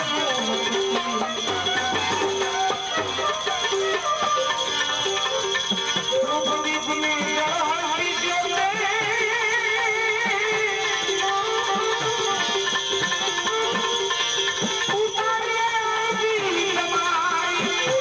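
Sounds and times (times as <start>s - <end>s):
jingling percussion: 0.0s - 18.0s.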